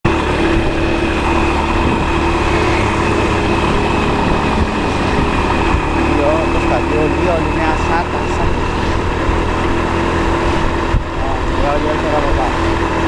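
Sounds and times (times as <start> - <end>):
vehicle engine droning: 0.0 - 13.0
steady hum: 0.1 - 13.0.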